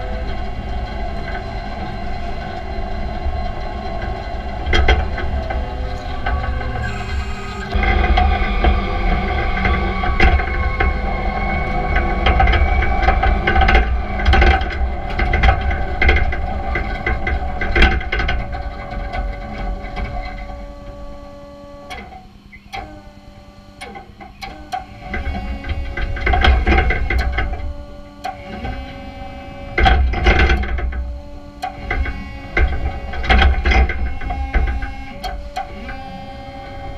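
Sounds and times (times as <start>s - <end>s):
electric motor whining and buzzing: 0.0s - 36.9s.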